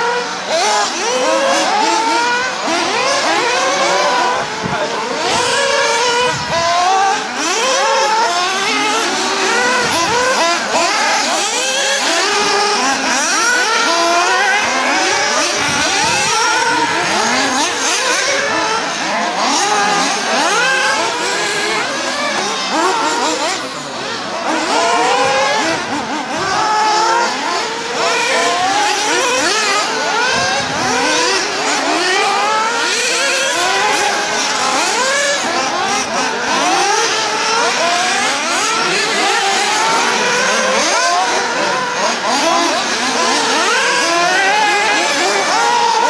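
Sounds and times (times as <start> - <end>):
rc car engines whining: 0.0 - 46.0.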